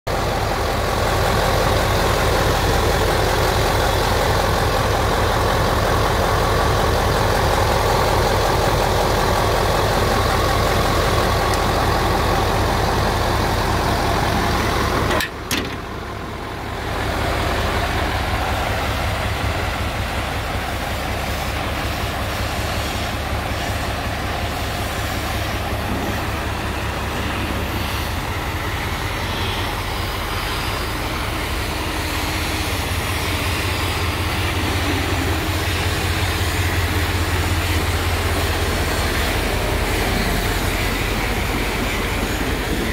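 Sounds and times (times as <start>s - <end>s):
diesel truck engine idling: 0.1s - 42.9s.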